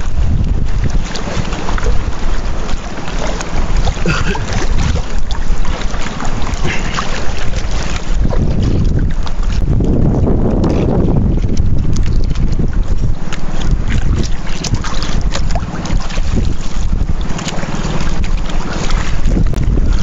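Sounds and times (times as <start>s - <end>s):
heavy low rumble: 0.0s - 20.0s
sea water lapping against boat: 0.0s - 20.0s
wind buffeting microphone: 0.0s - 20.0s.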